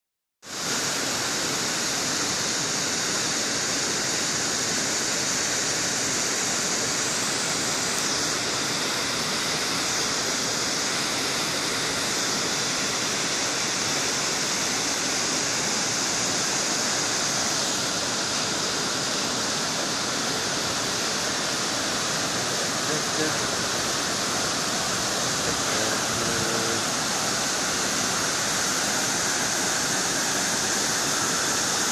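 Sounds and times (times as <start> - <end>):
waterfall rushing: 0.5 - 31.9.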